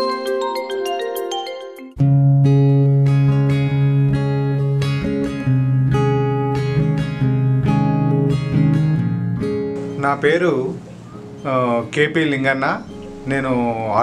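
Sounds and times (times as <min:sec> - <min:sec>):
plucked guitar music: 0:01.9 - 0:14.0.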